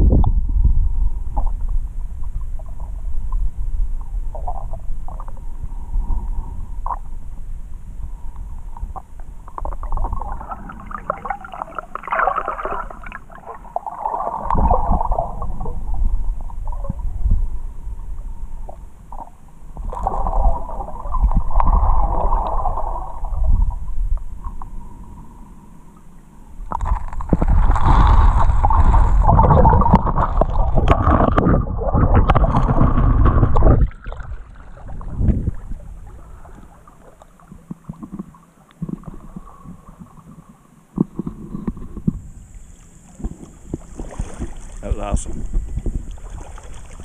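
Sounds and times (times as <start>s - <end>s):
faint wind hiss: 0.0s - 47.0s
muffled underwater river rushing: 0.0s - 47.0s.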